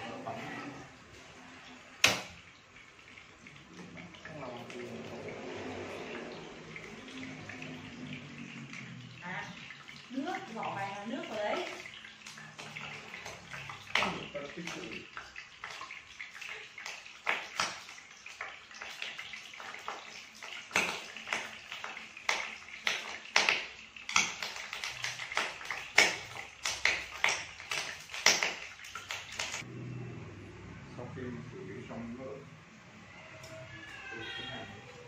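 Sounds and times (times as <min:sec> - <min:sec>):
running water splashing: 0:00.0 - 0:29.7.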